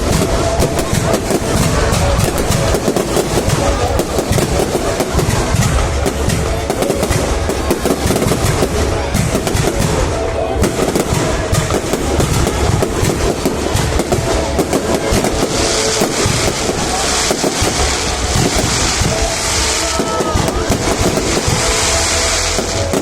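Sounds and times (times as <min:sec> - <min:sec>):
fireworks popping and crackling: 0:00.0 - 0:23.0
high hissing crackle: 0:00.0 - 0:23.0.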